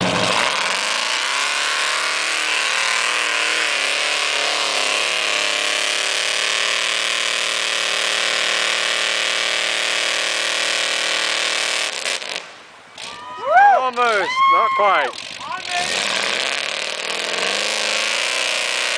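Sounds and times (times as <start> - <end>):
truck engine revving high: 0.0 - 13.1, 15.0 - 18.9.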